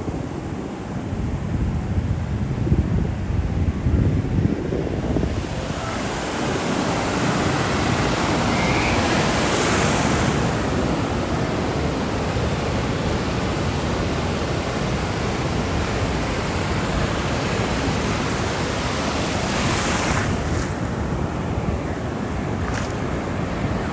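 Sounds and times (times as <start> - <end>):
ocean waves rushing: 4.6 - 23.9.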